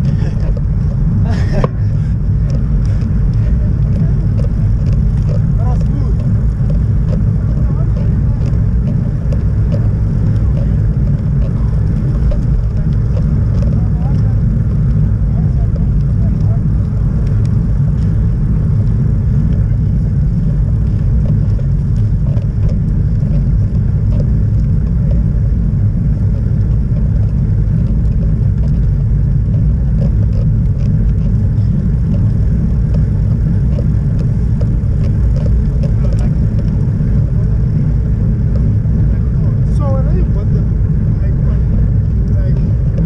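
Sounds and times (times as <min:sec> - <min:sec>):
tyres humming on tarmac: 0:00.0 - 0:43.0
wind rumble on microphone: 0:00.0 - 0:43.0.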